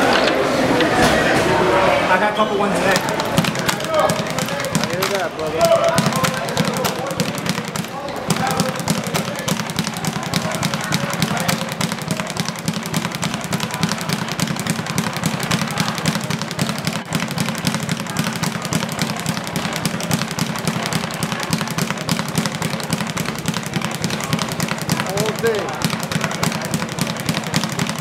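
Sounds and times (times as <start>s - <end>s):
speed bag drumming rapidly: 2.8s - 28.0s.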